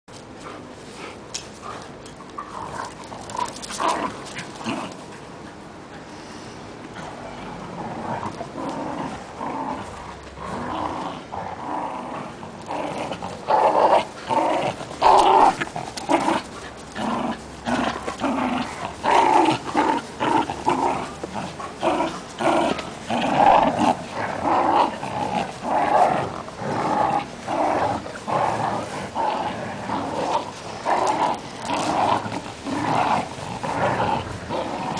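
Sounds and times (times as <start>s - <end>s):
dogs growling: 0.9s - 34.9s.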